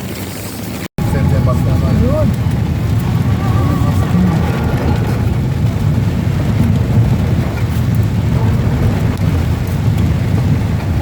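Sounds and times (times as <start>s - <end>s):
car rumbling while moving: 0.0s - 11.0s.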